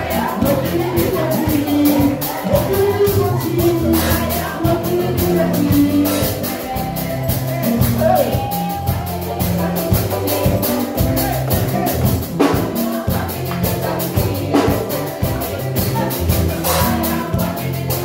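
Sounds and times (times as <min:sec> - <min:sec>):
bass line: 0:00.0 - 0:18.0
singing: 0:00.0 - 0:18.0
steady drum beat: 0:00.0 - 0:18.0
upbeat praise band music: 0:00.0 - 0:18.0.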